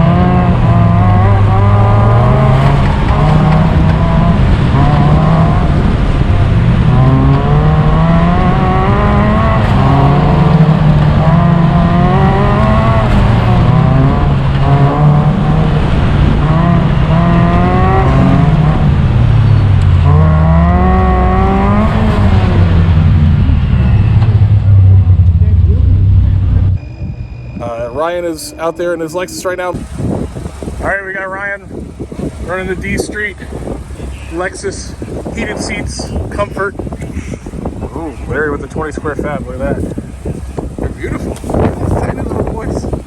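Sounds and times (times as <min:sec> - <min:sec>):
race car engine revving: 0:00.0 - 0:42.9.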